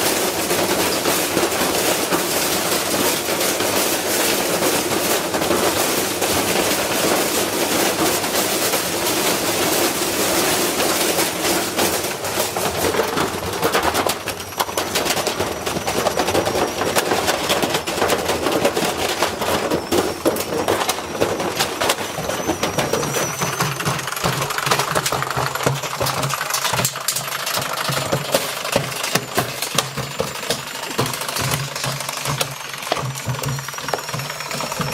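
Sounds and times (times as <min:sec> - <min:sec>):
washing machine banging and rattling: 0:00.0 - 0:34.9.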